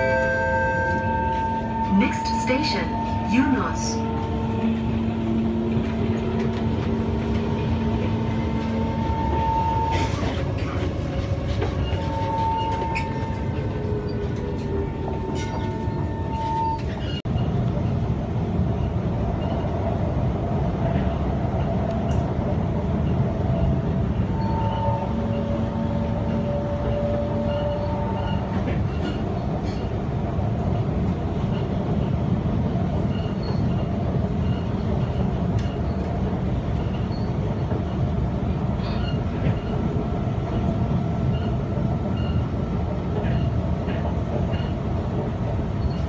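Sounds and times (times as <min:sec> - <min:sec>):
train wheels rumbling: 0:00.0 - 0:46.0.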